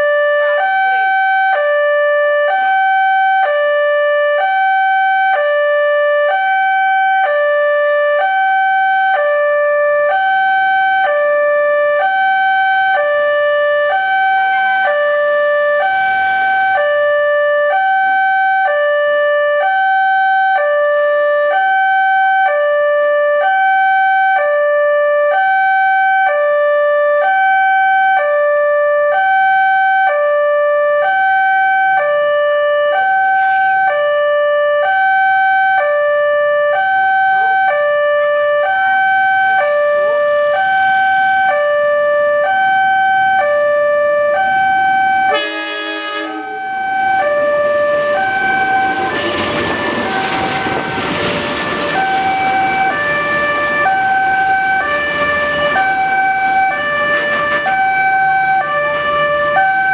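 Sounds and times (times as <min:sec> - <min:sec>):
two-tone crossing alarm: 0:00.0 - 0:59.9.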